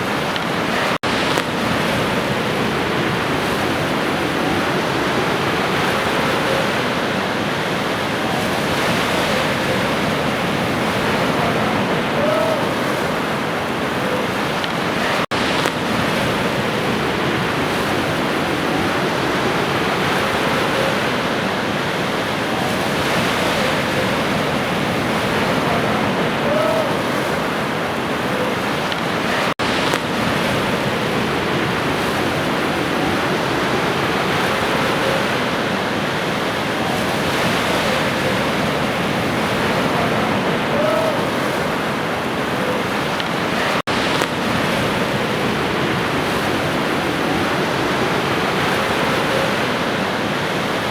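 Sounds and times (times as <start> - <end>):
ocean waves washing on shore: 0.0 - 50.9.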